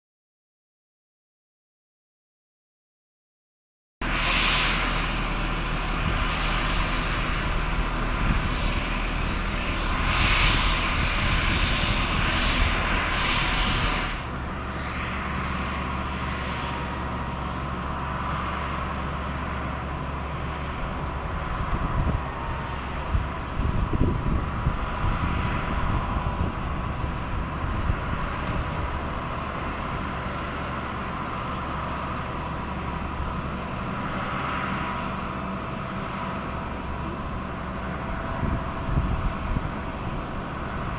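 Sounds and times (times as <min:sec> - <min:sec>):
jet turbines whining: 0:04.0 - 0:40.9.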